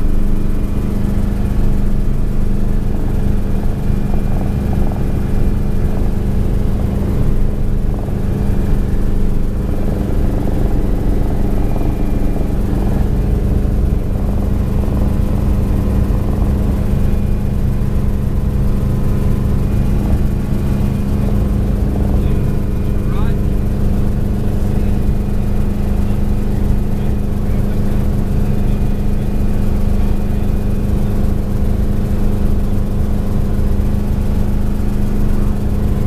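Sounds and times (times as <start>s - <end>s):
helicopter engine and rotors: 0.0s - 36.0s.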